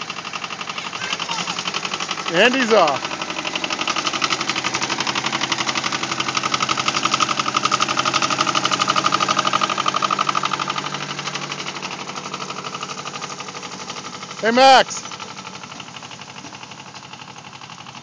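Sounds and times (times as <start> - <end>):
tractor diesel engine knocking: 0.0 - 18.0.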